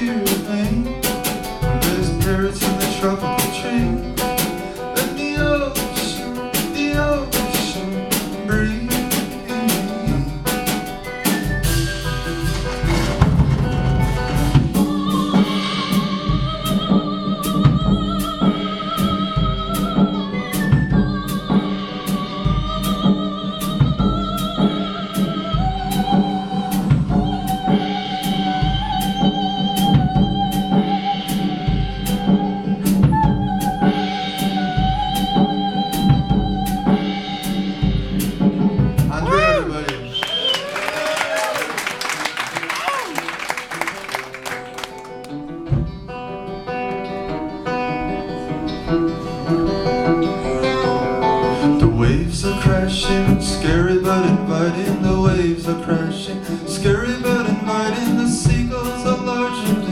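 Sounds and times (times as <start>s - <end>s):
steady drum beat: 0.0s - 34.0s, 34.8s - 46.2s, 51.7s - 59.9s.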